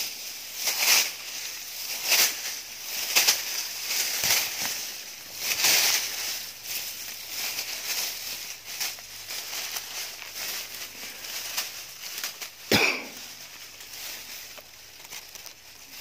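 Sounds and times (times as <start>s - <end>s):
dry grass and leaves rustling: 0.0s - 16.0s.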